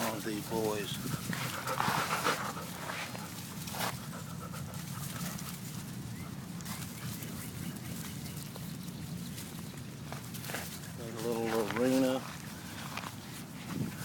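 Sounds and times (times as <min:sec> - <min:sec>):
puppies panting: 0:00.0 - 0:14.0.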